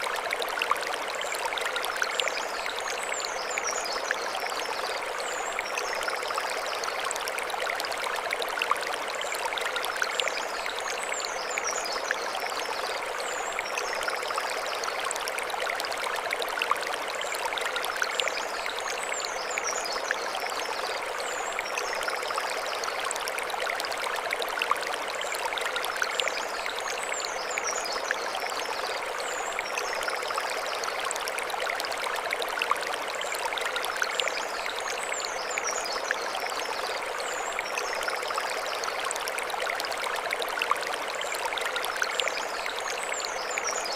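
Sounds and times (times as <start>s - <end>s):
stream flowing over stones: 0.0s - 43.9s.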